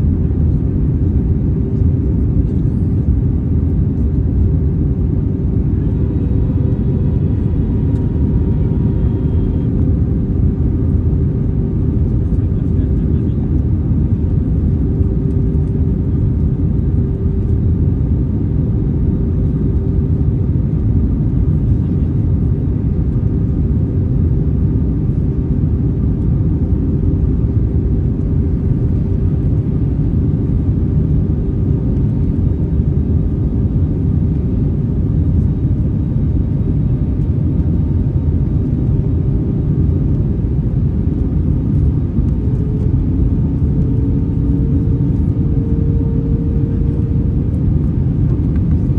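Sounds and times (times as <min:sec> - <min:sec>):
airplane cabin engine drone: 0:00.0 - 0:48.9.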